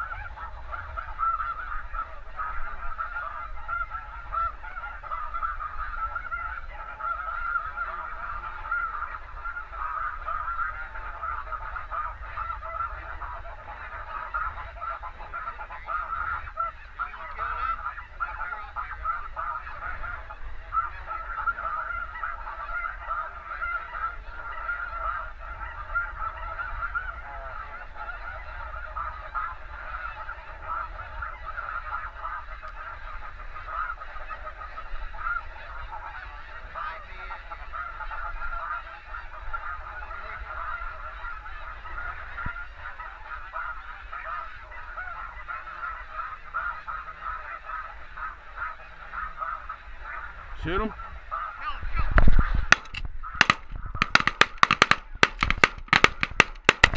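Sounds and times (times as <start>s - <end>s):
geese honking: 0.0s - 56.9s.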